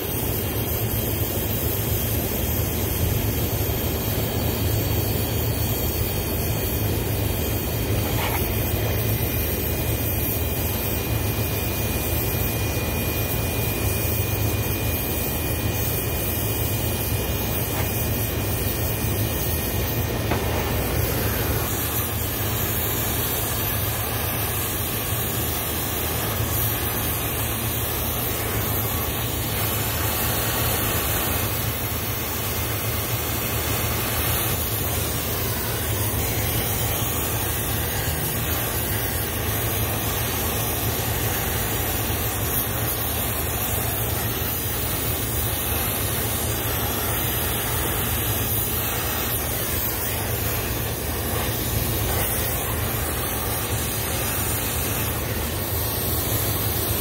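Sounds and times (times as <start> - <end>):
steady rumbling hissing noise: 0.0 - 57.0.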